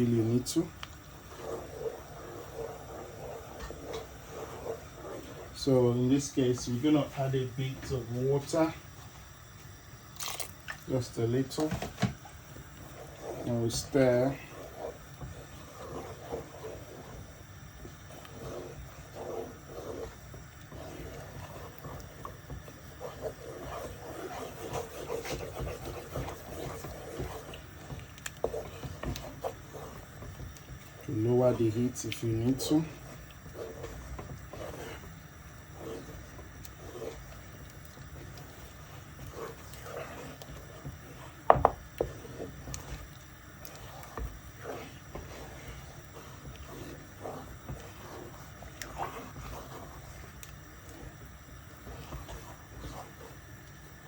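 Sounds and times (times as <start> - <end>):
faint low hum: 0.0 - 54.0
spoon stirring thick oats: 0.0 - 54.0.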